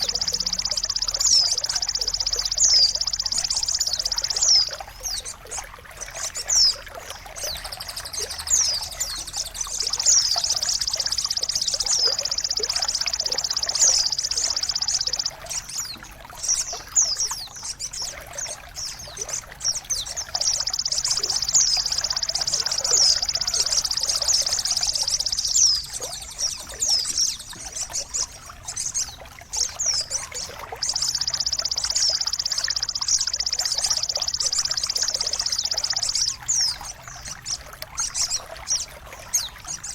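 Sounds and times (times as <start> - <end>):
fast buzzing bird trill: 0.0 - 39.9
songbirds chirping: 0.0 - 39.9
water trickling and splashing: 0.0 - 39.9.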